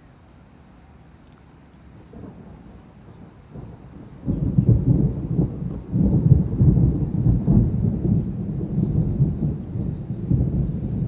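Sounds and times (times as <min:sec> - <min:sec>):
thunder rumbling: 0:02.0 - 0:11.0.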